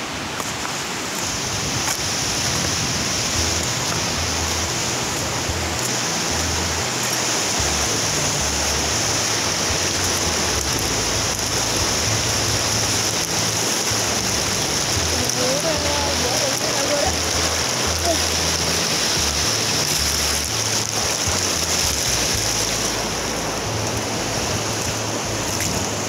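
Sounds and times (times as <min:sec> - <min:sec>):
river rushing over rapids: 0:00.0 - 0:26.0.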